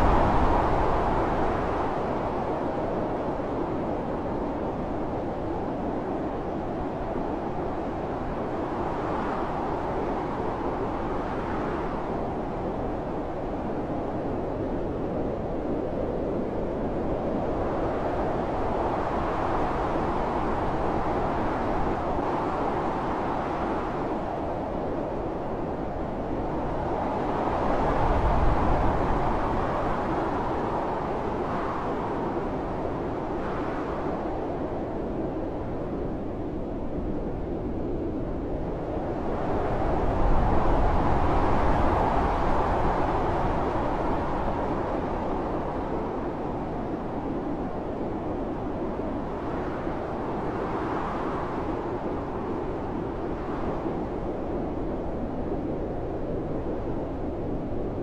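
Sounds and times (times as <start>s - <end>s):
blizzard wind blowing: 0.0s - 58.0s.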